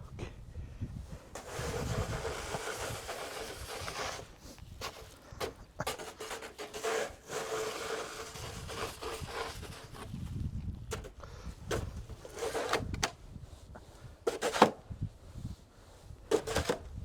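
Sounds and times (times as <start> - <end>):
snow shovel scraping snow: 1.2 - 17.0.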